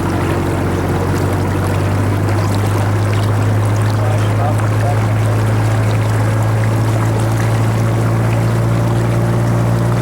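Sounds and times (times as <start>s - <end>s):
water against hull: 0.0s - 10.0s.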